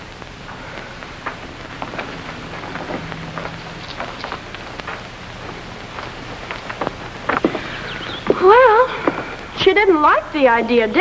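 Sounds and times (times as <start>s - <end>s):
film soundtrack hiss and crackle: 0.0s - 11.0s.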